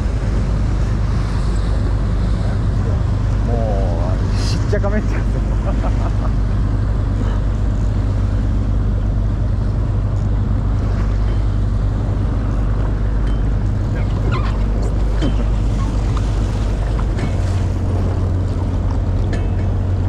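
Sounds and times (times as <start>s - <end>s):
boat engine humming: 0.0s - 20.0s
water noise: 0.0s - 20.0s
wind: 0.0s - 20.0s.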